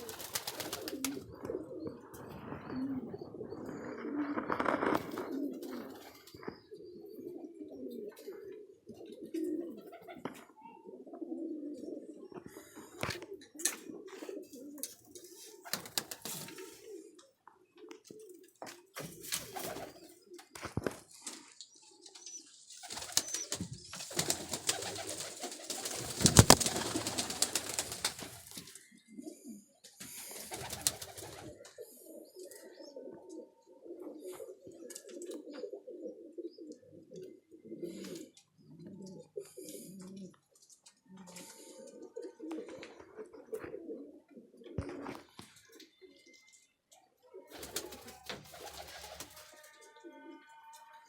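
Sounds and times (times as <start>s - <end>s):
pigeons cooing: 0.0s - 46.5s, 47.2s - 50.5s.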